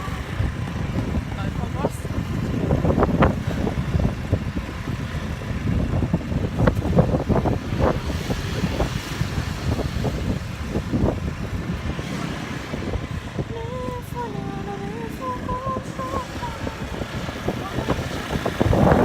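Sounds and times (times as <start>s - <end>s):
motorbike engine and road rumble: 0.0s - 19.0s
wind buffeting microphone: 0.0s - 19.0s.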